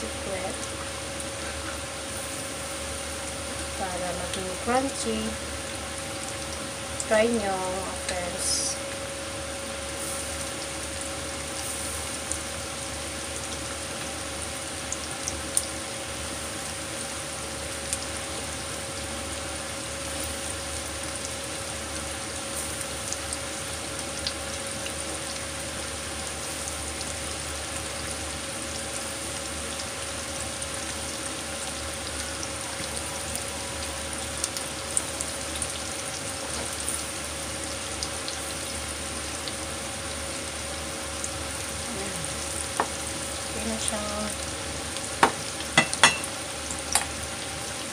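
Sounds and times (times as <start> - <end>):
chicken deep-frying in oil: 0.0 - 47.9.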